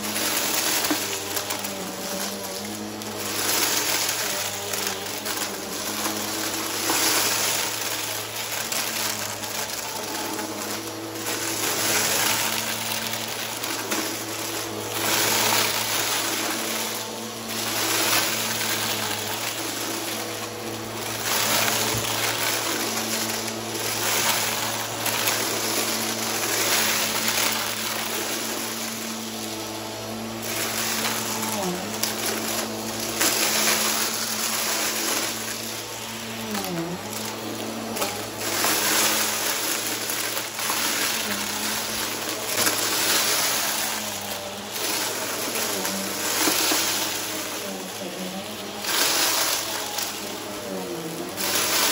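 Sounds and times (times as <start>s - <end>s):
vacuum cleaner motor hum: 0.0s - 51.9s.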